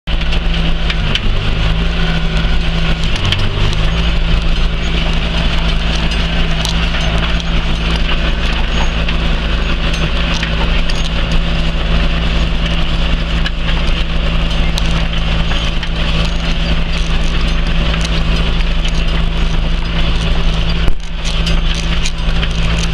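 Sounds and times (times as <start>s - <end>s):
tractor diesel engine under load: 0.0s - 22.9s.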